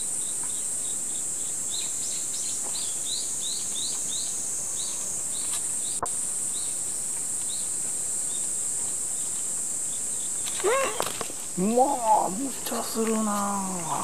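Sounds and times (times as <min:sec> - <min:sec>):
bird chirping: 0:00.0 - 0:14.0
high-pitched insect drone: 0:00.0 - 0:14.0.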